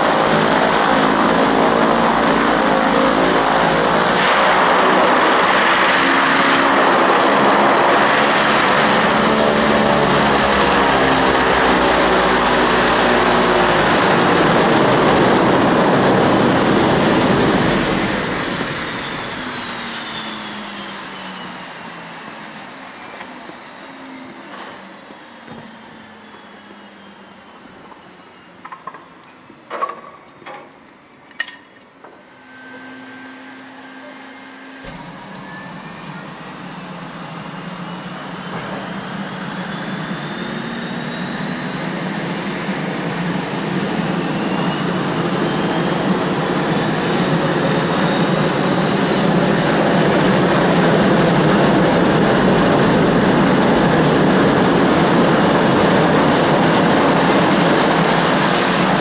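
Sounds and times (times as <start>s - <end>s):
aircraft engine roar: 0.0s - 59.0s
turbine engine whine: 0.0s - 59.0s.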